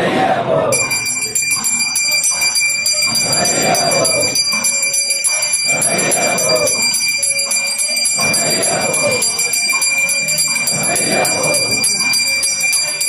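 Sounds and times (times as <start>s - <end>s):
chanting voices: 0.0s - 13.0s
hand bell ringing rapidly: 0.8s - 13.0s.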